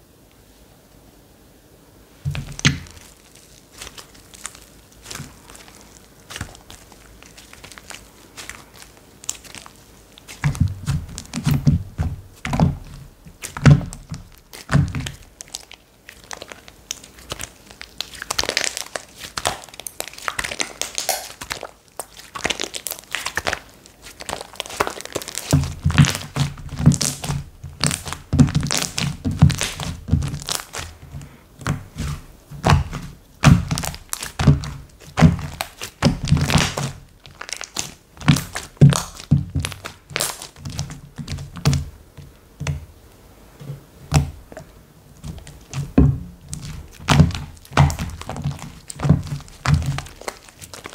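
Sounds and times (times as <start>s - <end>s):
soft low thuds of slime: 2.2s - 43.0s, 43.6s - 50.9s
sticky slime clicks and crackles: 2.3s - 41.9s, 45.2s - 50.9s.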